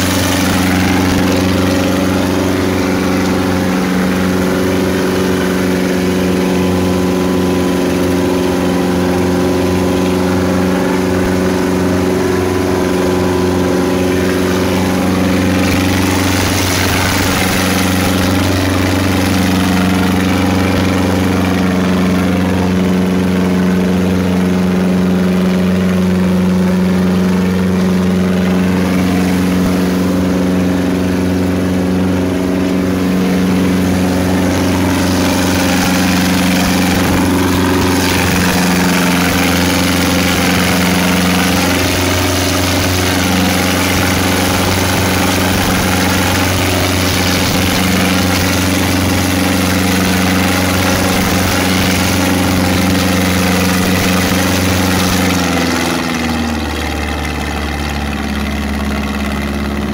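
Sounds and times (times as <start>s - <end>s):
boat engine running: 0.0s - 59.9s
water splashing along hull: 0.0s - 59.9s.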